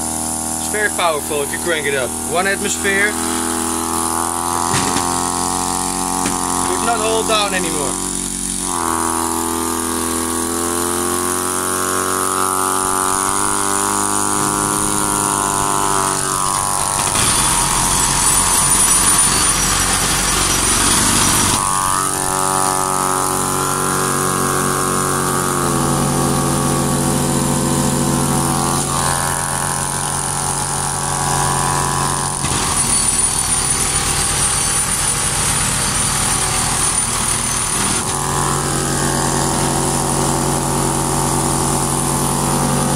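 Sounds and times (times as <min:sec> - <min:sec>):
loud rough machine noise: 0:00.0 - 0:42.9
machine buzz: 0:00.0 - 0:42.9.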